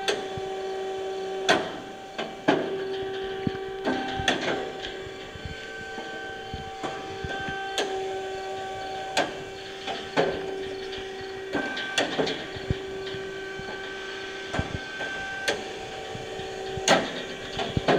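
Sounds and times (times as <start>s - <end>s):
hydraulic pump whine: 0.0s - 17.9s.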